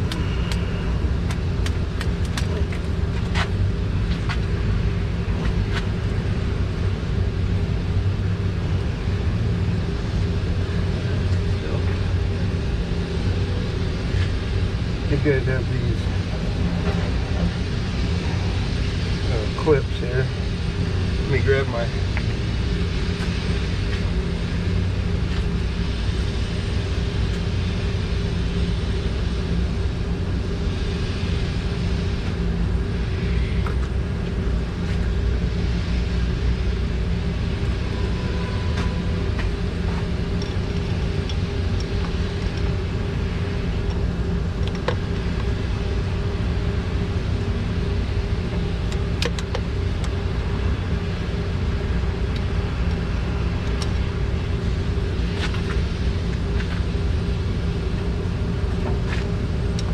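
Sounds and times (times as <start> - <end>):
machine drone and hum: 0.0 - 59.9.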